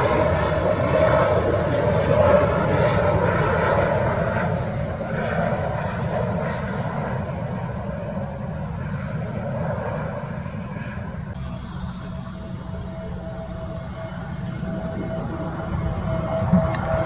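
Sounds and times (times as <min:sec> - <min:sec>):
jet airliner engine rushing: 0:00.0 - 0:17.0.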